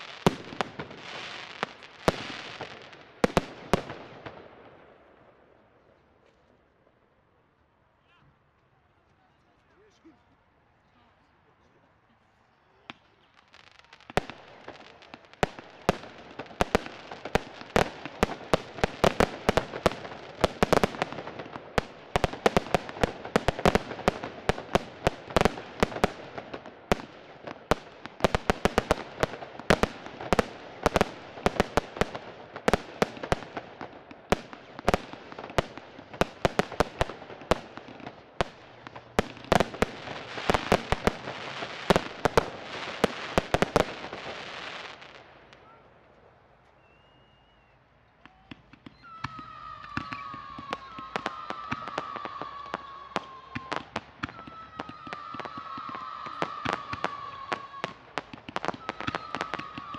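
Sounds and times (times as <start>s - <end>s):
fireworks bangs: 0.0s - 6.4s, 12.8s - 46.3s, 48.2s - 59.9s.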